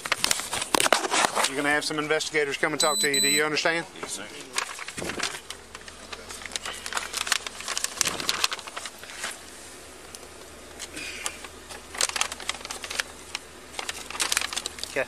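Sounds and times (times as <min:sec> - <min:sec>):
handling noise clicks and rustling: 0:00.0 - 0:01.6, 0:04.0 - 0:15.0
low steady hum: 0:00.0 - 0:15.0.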